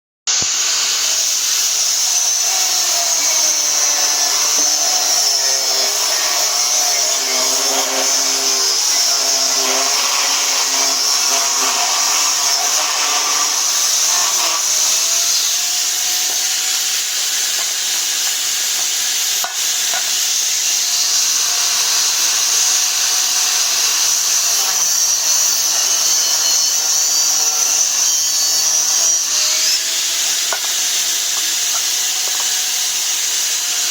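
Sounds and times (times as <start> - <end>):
power tool cutting wood: 0.3 - 33.9.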